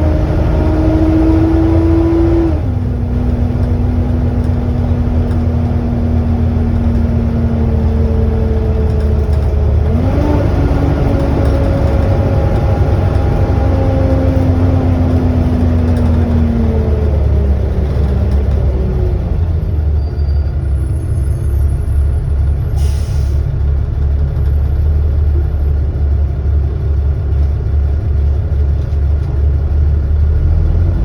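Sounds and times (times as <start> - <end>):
bus engine drone: 0.0 - 31.0.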